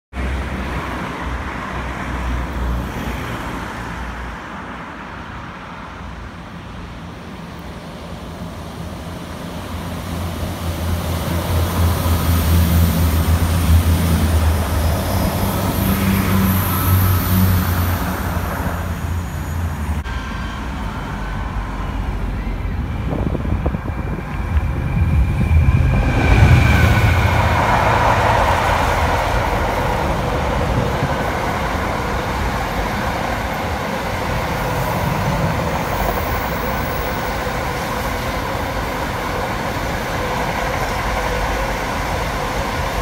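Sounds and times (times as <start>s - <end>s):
diesel train engine drone: 0.1s - 43.0s.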